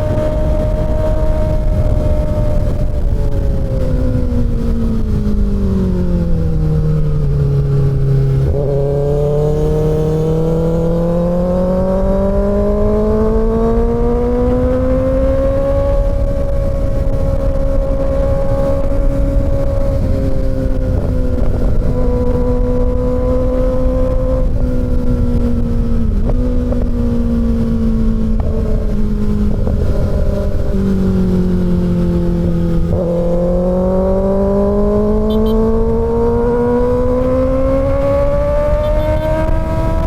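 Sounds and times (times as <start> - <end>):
motorcycle engine: 0.0 - 40.0
wind and road rush: 0.0 - 40.0.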